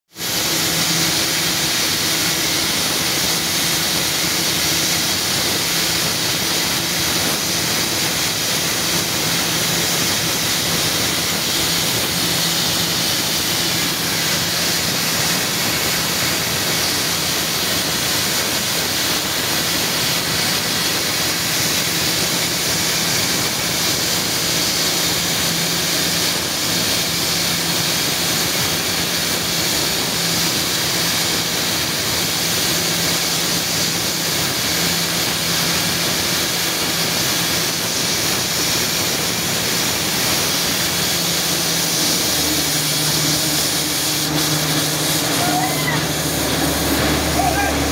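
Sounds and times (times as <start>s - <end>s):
drilling rig rushing hiss: 0.1s - 47.9s.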